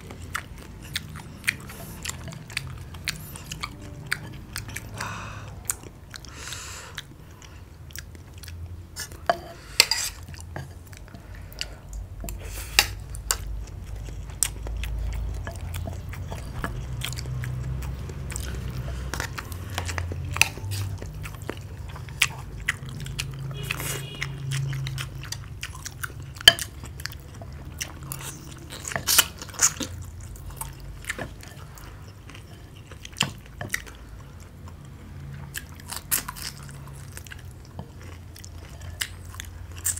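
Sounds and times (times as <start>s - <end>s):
chewing: 0.0s - 39.9s.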